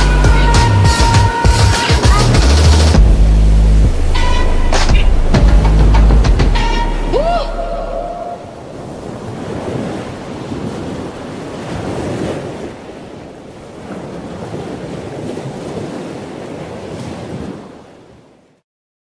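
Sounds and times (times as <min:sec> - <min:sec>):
ocean waves washing on shore: 0:00.0 - 0:18.6.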